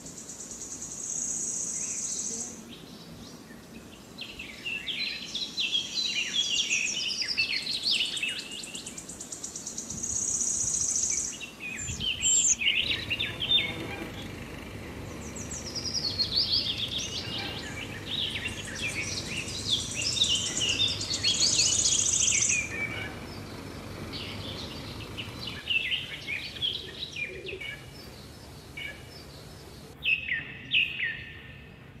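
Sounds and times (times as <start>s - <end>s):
songbirds chirping and singing: 0.1s - 31.8s.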